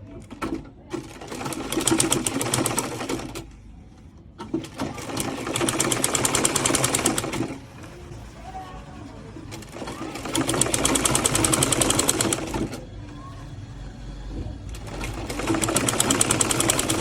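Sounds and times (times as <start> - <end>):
sewing machine stitching: 0.2 - 3.4, 4.4 - 12.9, 14.7 - 17.0.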